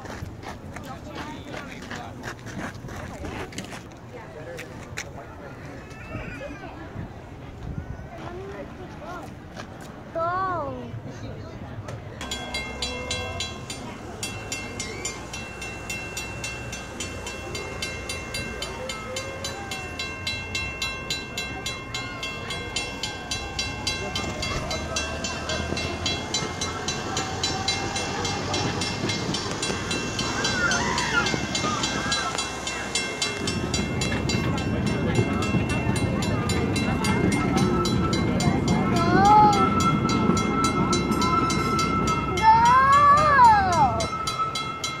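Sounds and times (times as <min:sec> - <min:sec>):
small train clattering on track: 0:00.0 - 0:05.2, 0:11.8 - 0:45.0.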